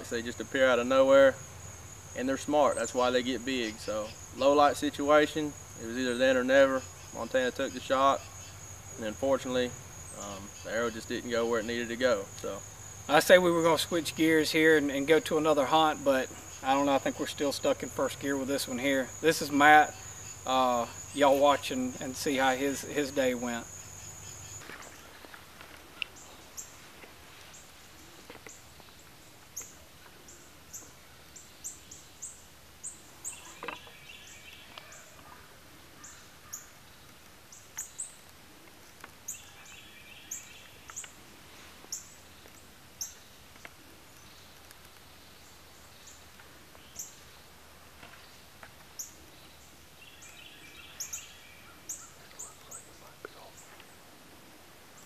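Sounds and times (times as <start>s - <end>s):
birds chipping: 0.0s - 55.0s.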